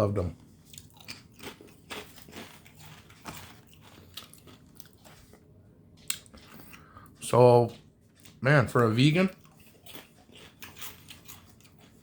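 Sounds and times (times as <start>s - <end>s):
person chewing crunchy chips: 0.2s - 12.0s.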